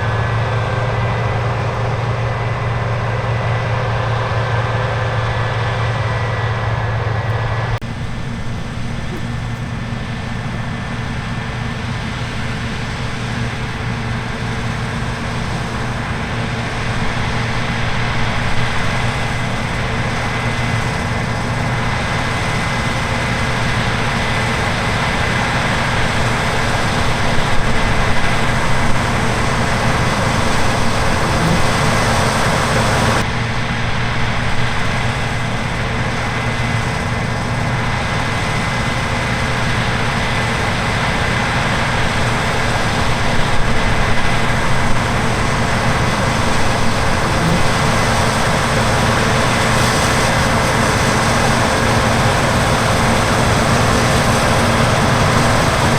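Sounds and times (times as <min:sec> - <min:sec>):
diesel engines running: 0:00.0 - 0:55.9
harvest machines humming and whining: 0:00.0 - 0:55.9.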